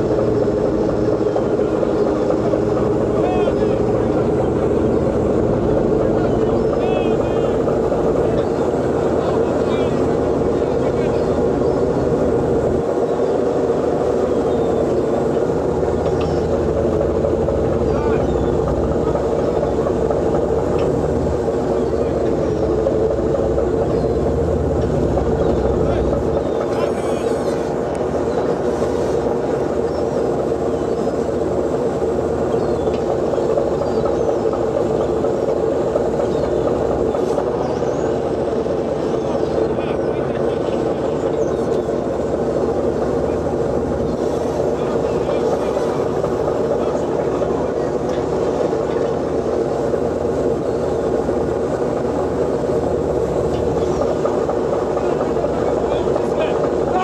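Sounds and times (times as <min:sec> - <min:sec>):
ship engines and deck machinery drone: 0:00.0 - 0:57.0.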